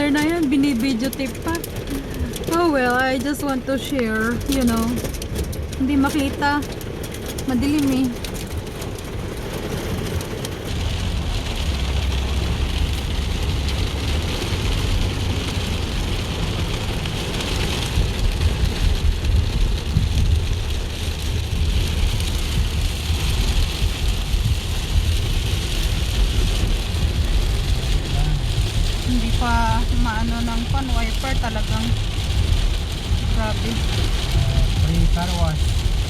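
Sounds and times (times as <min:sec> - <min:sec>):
rain and hail on car roof: 0:00.0 - 0:36.0
road and engine rumble: 0:00.0 - 0:36.0.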